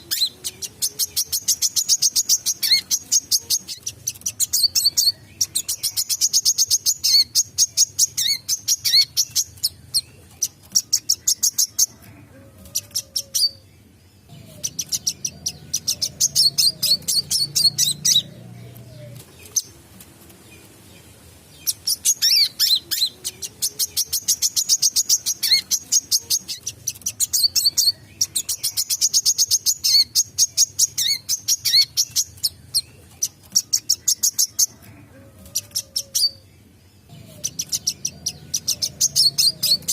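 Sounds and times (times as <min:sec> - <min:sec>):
sunbird chirping: 0:00.0 - 0:12.0, 0:12.8 - 0:19.8, 0:20.4 - 0:34.8, 0:35.6 - 0:39.9.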